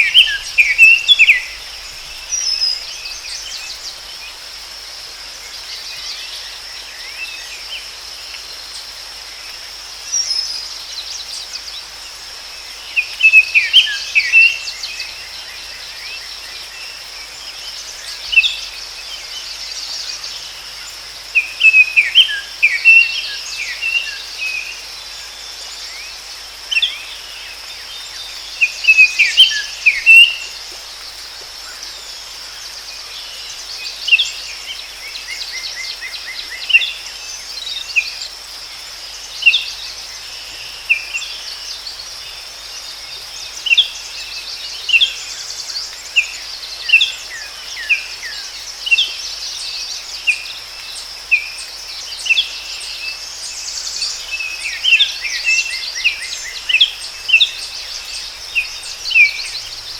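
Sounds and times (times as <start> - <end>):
songbird chirping: 0.0 - 4.4, 5.3 - 59.9.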